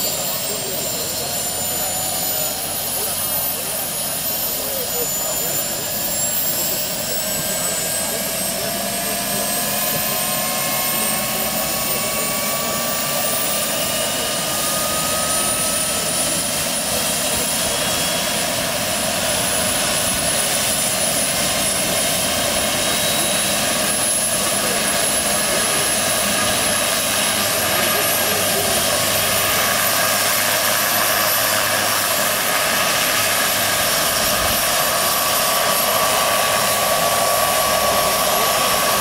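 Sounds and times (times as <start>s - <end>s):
model helicopter turbine whine: 0.0s - 39.0s.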